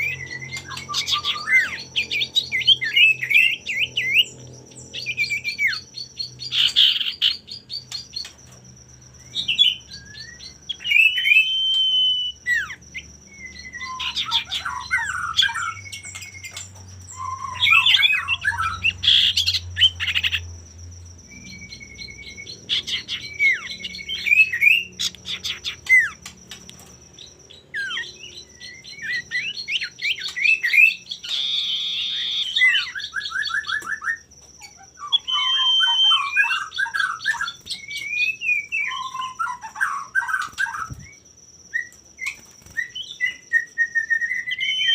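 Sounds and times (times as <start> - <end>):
bird singing whistled notes: 0.0 - 44.9.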